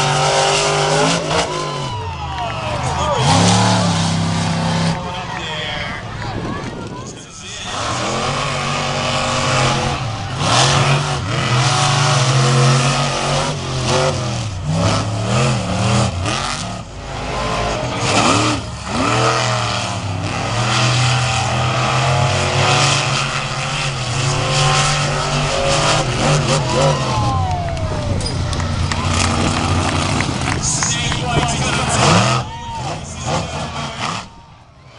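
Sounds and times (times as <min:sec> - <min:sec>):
truck engine revving hard: 0:00.0 - 0:34.5.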